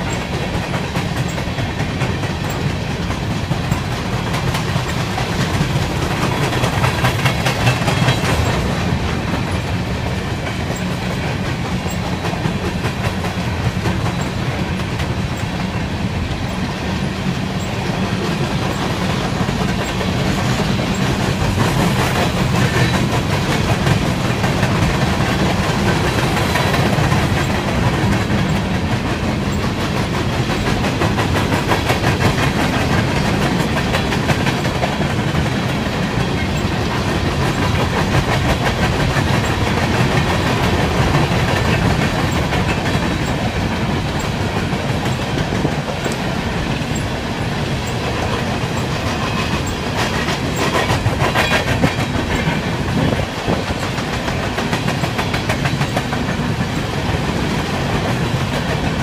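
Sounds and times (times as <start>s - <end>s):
freight train rumble: 0.0s - 59.0s
train wheels clicking over rail joints: 0.0s - 59.0s.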